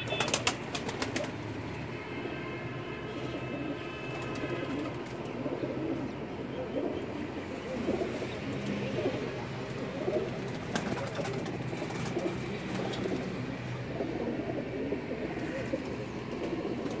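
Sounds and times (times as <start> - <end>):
pigeons cooing: 3.2 - 17.0.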